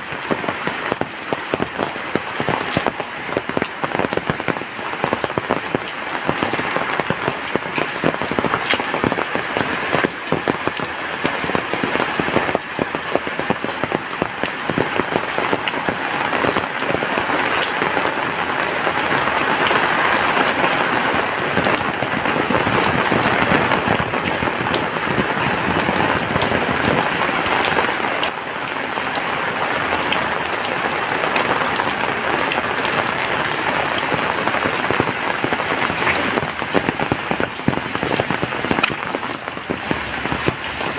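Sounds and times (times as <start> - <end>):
heavy rain falling: 0.0 - 40.9
raindrops ticking on surfaces: 0.0 - 40.9.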